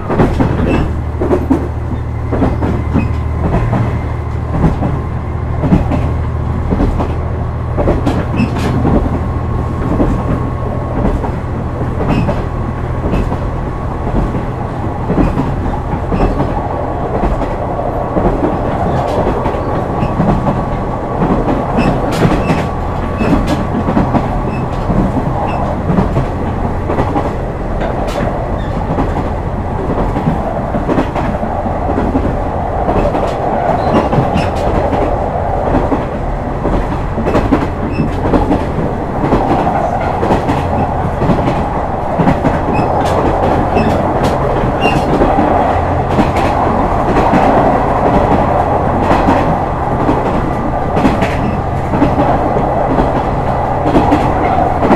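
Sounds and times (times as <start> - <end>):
train wheels rumbling: 0.0 - 54.9
wheels clicking over rail joints: 5.6 - 54.9.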